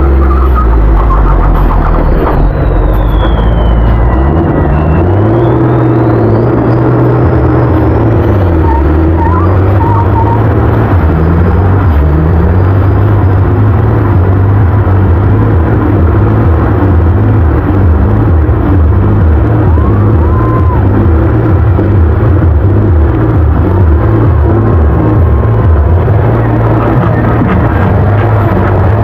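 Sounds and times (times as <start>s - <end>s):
diesel engine revving high: 0.0s - 29.0s
tyres spinning on asphalt: 0.0s - 29.0s.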